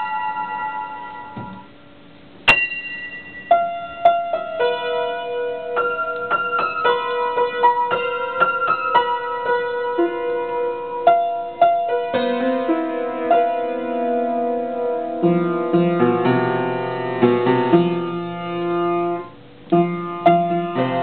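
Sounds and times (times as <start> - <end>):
slow solo piano melody: 2.4 - 21.0.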